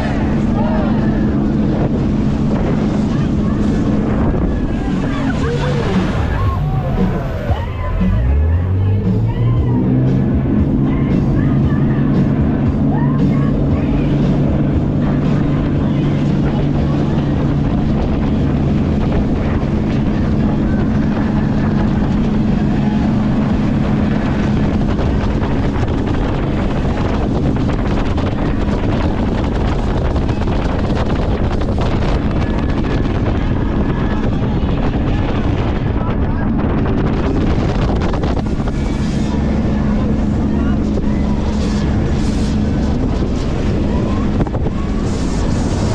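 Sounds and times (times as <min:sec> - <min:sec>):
boat engine drone: 0:00.0 - 0:45.9
rushing water: 0:00.0 - 0:45.9
wind buffeting microphone: 0:00.0 - 0:45.9.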